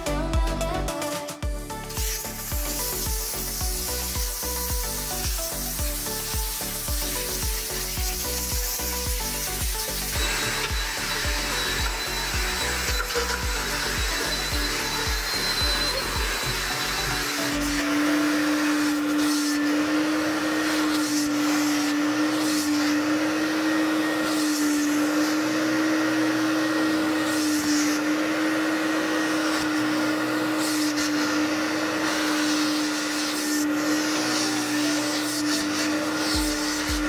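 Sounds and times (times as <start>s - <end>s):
vacuum cleaner on carpet: 1.7s - 37.0s.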